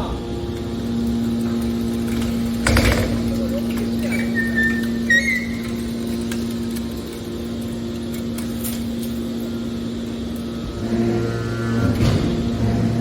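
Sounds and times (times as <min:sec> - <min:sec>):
baler machine hum: 0:00.0 - 0:13.0
deeper machine hum: 0:00.0 - 0:13.0.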